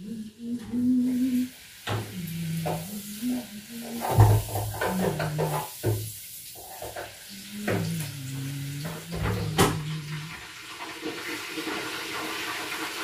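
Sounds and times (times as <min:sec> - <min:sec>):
steady hiss: 0:00.0 - 0:10.5.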